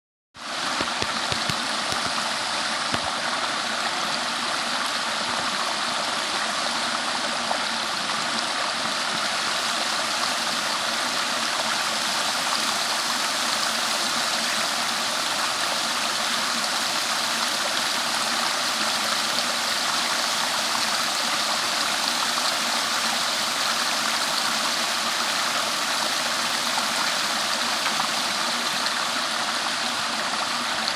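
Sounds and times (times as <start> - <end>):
stream water flowing: 0.4 - 30.9.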